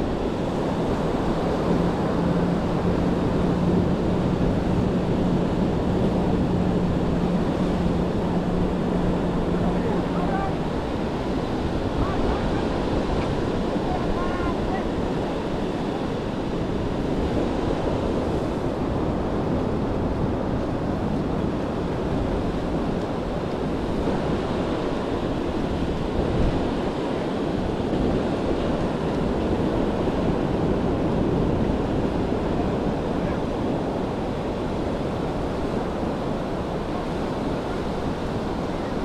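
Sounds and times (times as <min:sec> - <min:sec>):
surf washing on beach: 0:00.0 - 0:39.0
wind buffeting microphone: 0:00.0 - 0:39.0.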